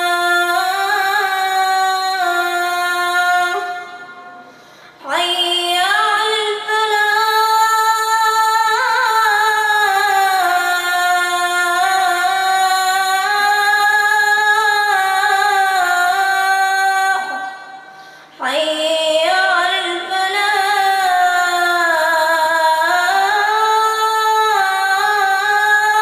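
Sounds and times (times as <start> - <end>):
child chanting recitation: 0.0 - 17.7, 18.4 - 26.0.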